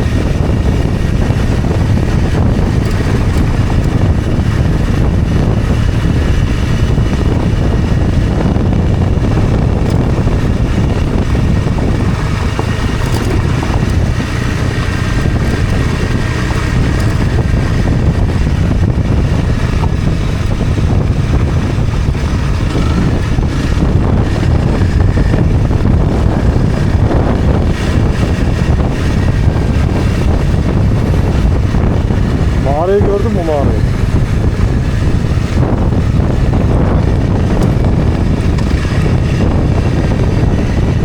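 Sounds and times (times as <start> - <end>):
motorcycle engine running: 0.0 - 41.0
wind buffeting microphone: 0.0 - 41.0.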